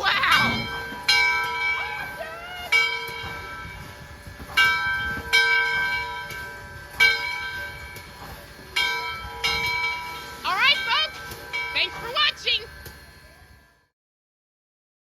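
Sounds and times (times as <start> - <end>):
locomotive bell ringing: 0.0 - 13.9.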